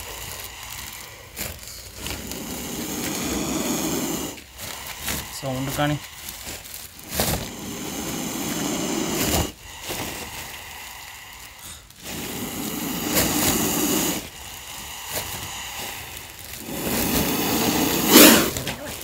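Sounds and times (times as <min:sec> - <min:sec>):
snake hissing: 0:00.0 - 0:19.0.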